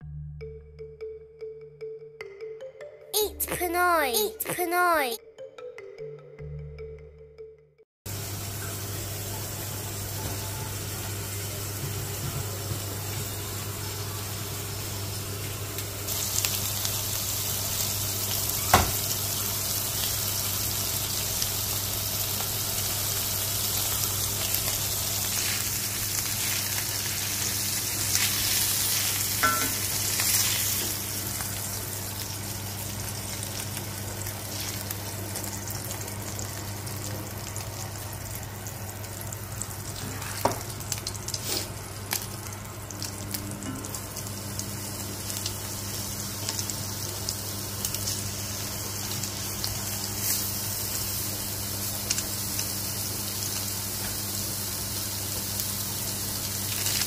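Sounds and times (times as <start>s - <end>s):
meat sizzling in a frying pan: 8.1s - 12.2s, 12.8s - 57.0s.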